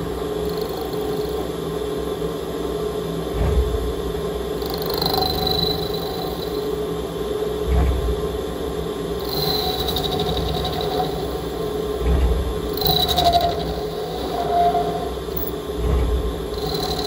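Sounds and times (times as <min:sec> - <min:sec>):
milling machine spindle hum: 0:00.0 - 0:17.0.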